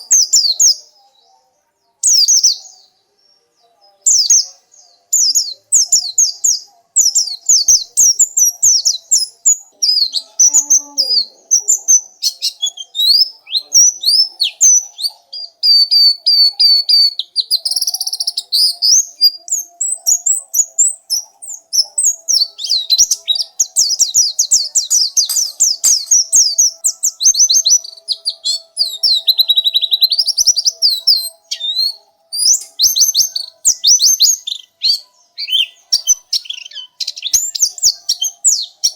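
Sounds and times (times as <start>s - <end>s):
bird chirping and trilling: 4.0s - 38.9s.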